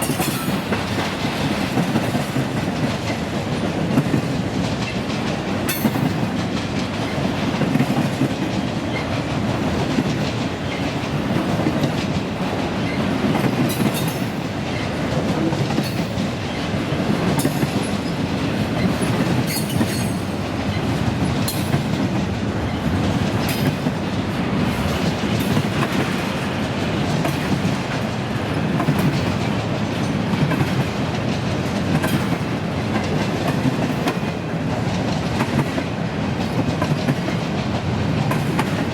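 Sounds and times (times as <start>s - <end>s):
freight train rumbling: 0.0s - 38.9s
train wheels clacking on rails: 0.0s - 38.9s.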